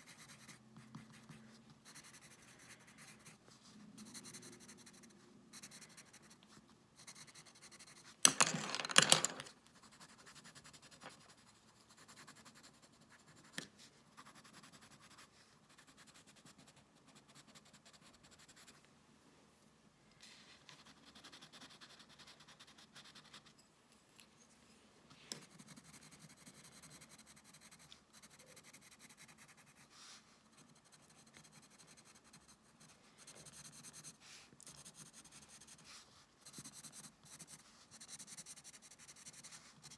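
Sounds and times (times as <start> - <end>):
pencil scratching on paper: 0.0 - 8.2, 9.8 - 18.8, 20.7 - 23.6, 25.4 - 39.9.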